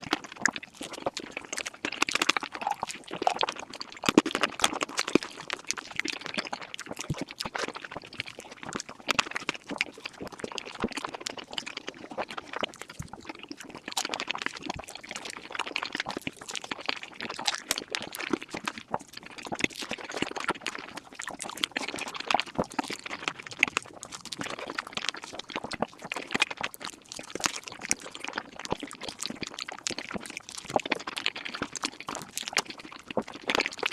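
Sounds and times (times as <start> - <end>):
rapid chewing and mouth clicks: 0.0 - 33.9.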